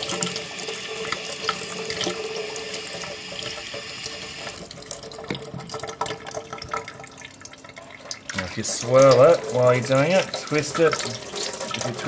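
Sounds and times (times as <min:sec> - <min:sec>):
tap water filling container: 0:00.0 - 0:12.0.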